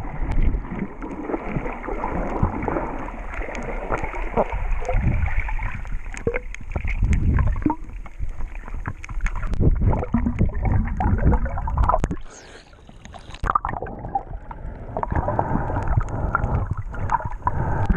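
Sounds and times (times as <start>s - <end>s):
bubbly clicks and crackles: 0.0s - 17.9s
underwater low rumble: 0.0s - 17.9s.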